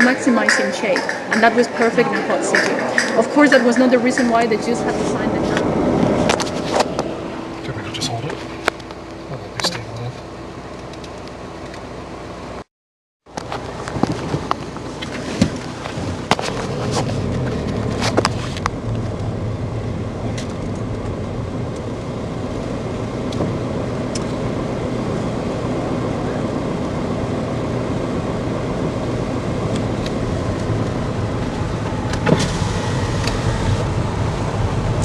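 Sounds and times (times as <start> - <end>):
car engine and road rumble: 0.0 - 12.7, 13.3 - 35.0.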